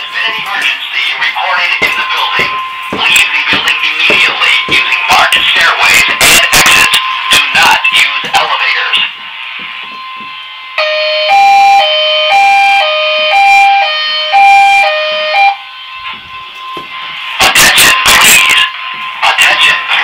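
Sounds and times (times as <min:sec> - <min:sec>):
hi-lo fire alarm tone: 0:00.0 - 0:20.0.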